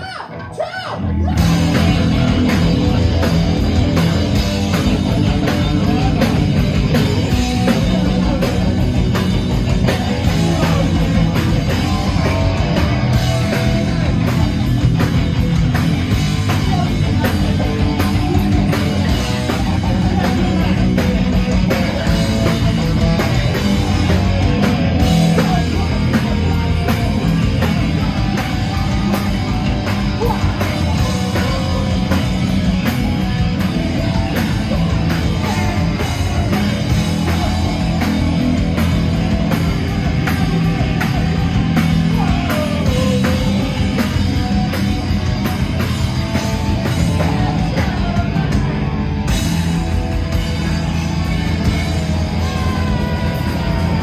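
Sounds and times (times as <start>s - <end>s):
bass guitar: 0.0s - 54.0s
distorted electric guitars: 0.0s - 54.0s
drum kit fast beat: 1.2s - 54.0s.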